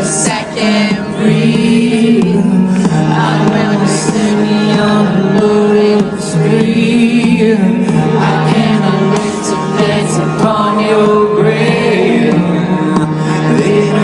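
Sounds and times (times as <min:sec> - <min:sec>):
live rock band playing: 0:00.0 - 0:14.0
person singing: 0:00.0 - 0:14.0.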